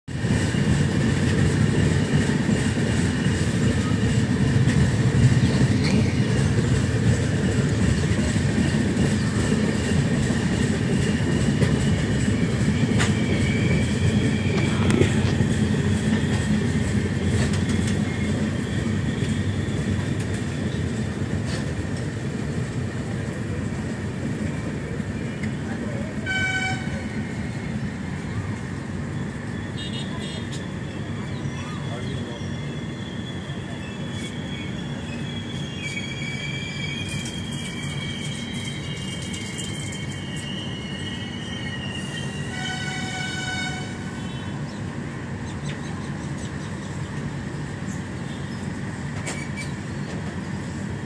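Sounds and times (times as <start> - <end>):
train wheels rumbling on rails: 0.1 - 51.0.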